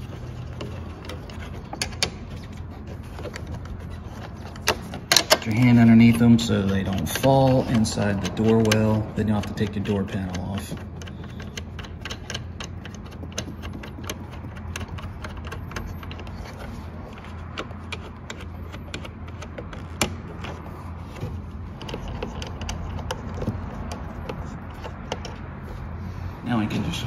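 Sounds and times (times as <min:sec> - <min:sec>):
metal nuts clicking and rattling: 0:00.0 - 0:25.8
steady low hum: 0:00.0 - 0:27.0.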